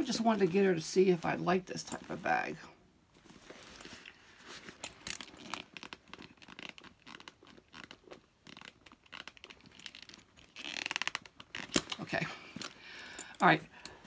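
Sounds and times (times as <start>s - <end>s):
leather handbag rustling: 0.0s - 14.0s.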